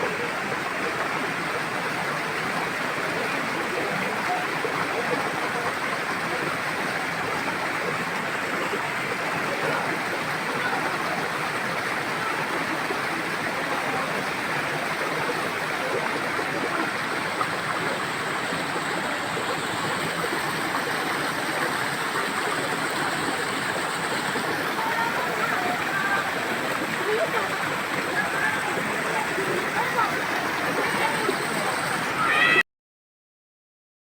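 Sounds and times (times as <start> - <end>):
rushing mountain water: 0.0 - 32.6.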